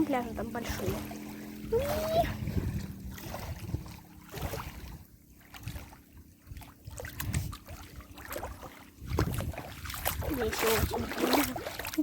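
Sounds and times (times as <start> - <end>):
waves lapping on stony shore: 0.0 - 12.0
wind buffeting microphone: 0.0 - 12.0.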